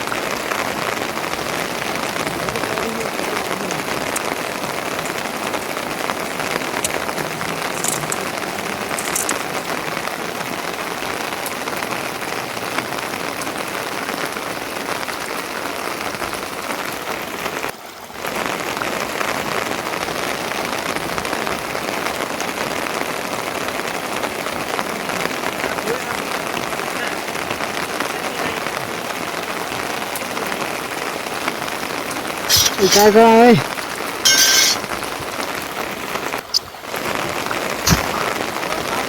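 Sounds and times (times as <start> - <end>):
rain falling steadily: 0.0 - 39.0.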